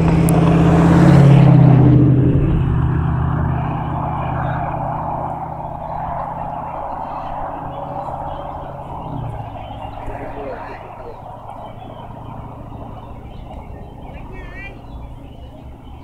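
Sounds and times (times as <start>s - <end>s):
motor engine humming: 0.0s - 16.0s.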